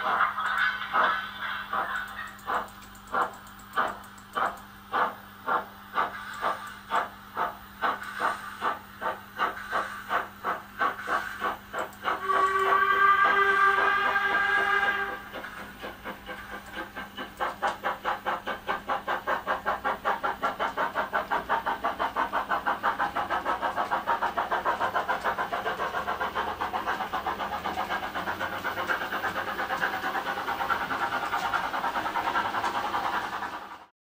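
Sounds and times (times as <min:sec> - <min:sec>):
model steam locomotive chuffs: 0:00.0 - 0:33.9.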